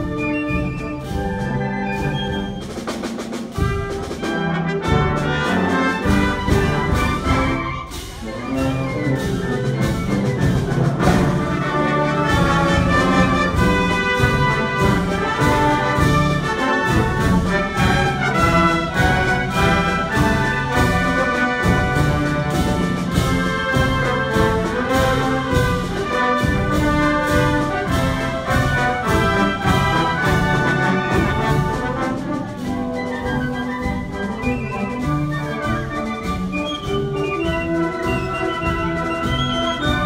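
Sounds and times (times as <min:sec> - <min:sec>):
drum strokes: 0:00.0 - 0:40.0
wind band playing: 0:00.0 - 0:40.0.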